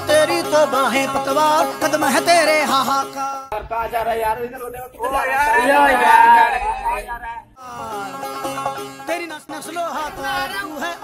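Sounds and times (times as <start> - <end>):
song with singing voice: 0.0 - 11.0.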